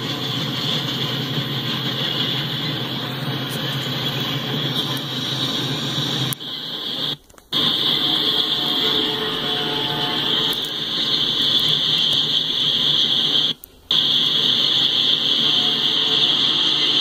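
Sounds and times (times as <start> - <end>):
rumble of train wheels: 0.0 - 17.0.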